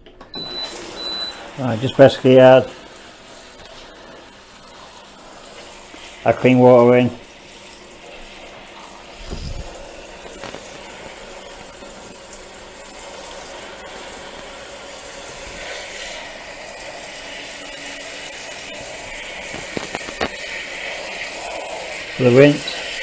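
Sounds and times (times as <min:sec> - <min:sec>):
water running into tub: 0:00.4 - 0:23.0.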